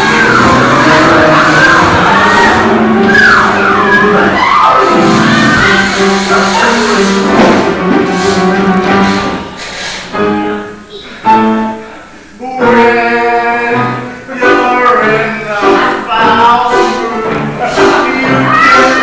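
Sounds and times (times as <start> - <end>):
stage musical instruments and voices: 0.0 - 19.0.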